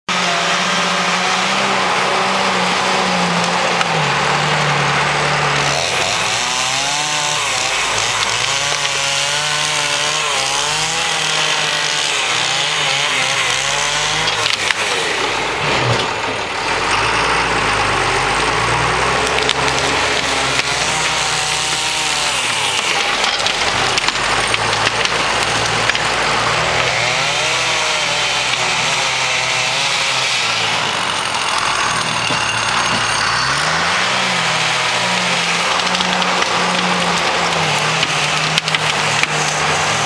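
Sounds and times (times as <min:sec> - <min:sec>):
diesel engine running hard: 0:00.1 - 0:11.1, 0:11.8 - 0:40.0
branches cracking and snapping: 0:00.2 - 0:16.9, 0:17.9 - 0:40.0.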